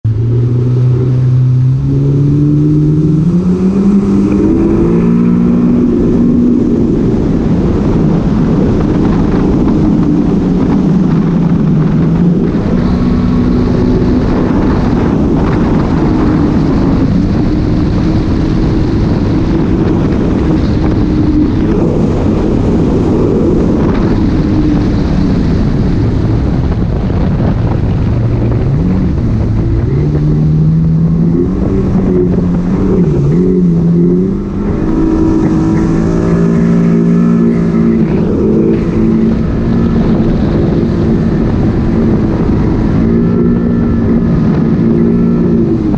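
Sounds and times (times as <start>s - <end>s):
jet ski engine running: 0.0s - 45.9s
water and wind rushing: 0.0s - 45.9s.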